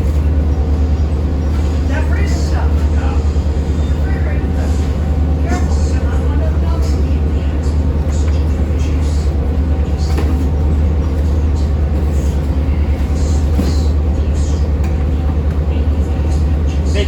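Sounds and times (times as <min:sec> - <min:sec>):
diesel machinery drone: 0:00.0 - 0:17.0.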